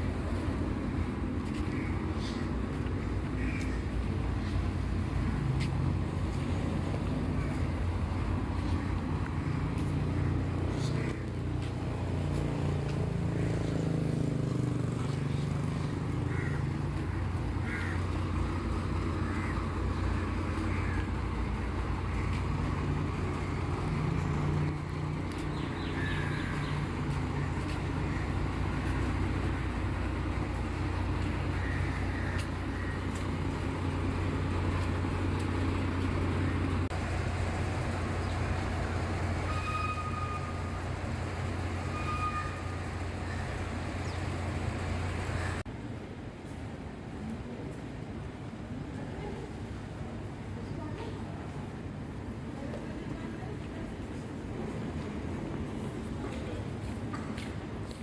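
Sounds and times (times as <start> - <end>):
low engine rumble: 0.0 - 58.0.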